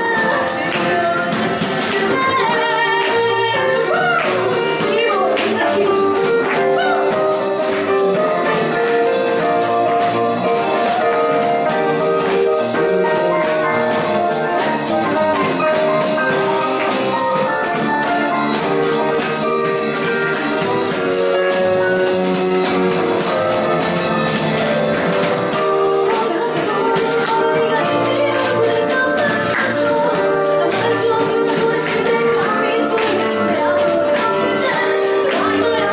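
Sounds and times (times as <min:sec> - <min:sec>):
acoustic guitar: 0:00.0 - 0:35.9
drums: 0:00.0 - 0:35.9
keyboard chords: 0:00.0 - 0:35.9.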